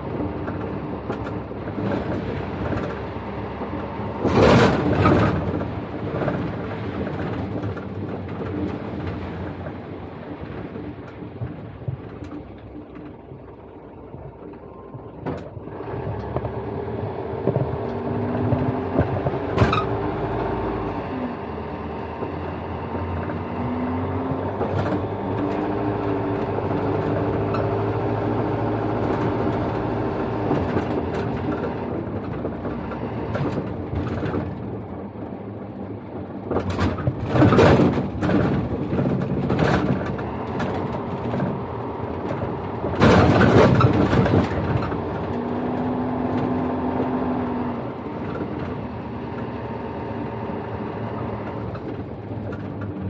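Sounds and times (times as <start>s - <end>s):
vehicle engine: 0.0s - 53.0s.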